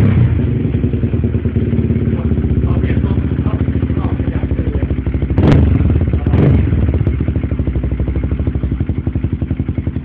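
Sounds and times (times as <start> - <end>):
motorcycle engine idling: 0.0 - 10.0
motorcycle throttle blips: 0.0 - 10.0.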